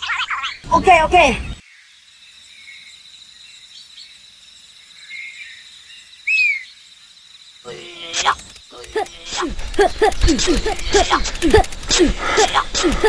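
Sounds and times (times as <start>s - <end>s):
faint bird chirps: 0.0s - 11.8s
insects trilling: 0.5s - 13.0s.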